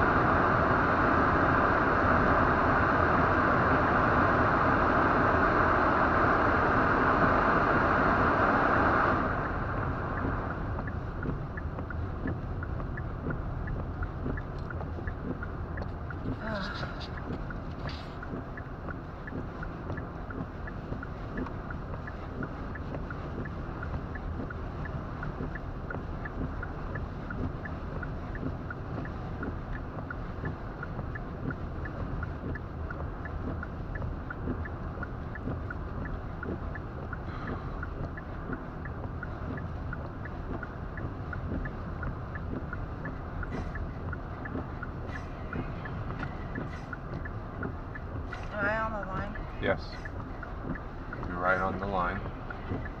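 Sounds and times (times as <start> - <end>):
engine and tyre rumble: 0.0 - 53.0
wind against car: 0.0 - 53.0
faint regular ticking: 9.1 - 53.0.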